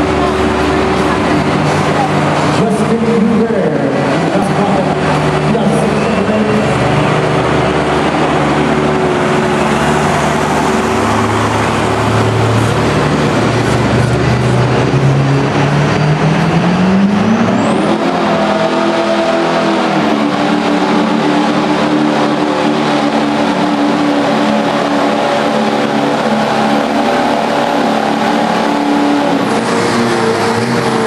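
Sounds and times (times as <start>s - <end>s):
diesel truck engines under load: 0.0s - 31.0s.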